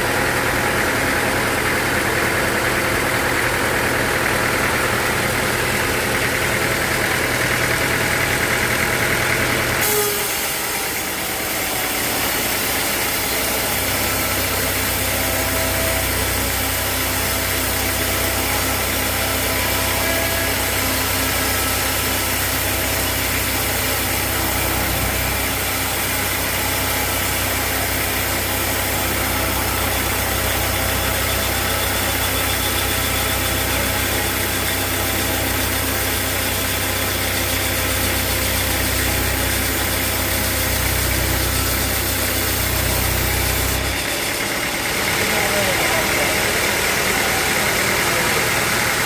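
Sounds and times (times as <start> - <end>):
sawmill engine humming: 0.0 - 49.0.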